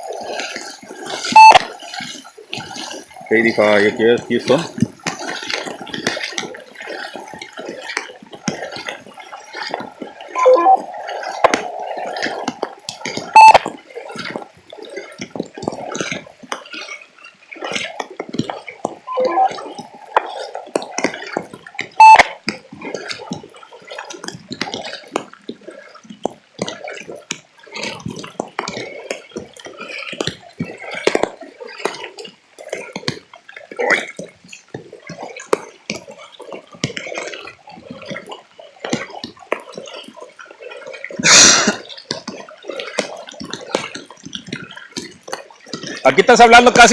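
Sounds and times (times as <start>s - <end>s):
water splashing and sloshing: 0.0s - 46.9s.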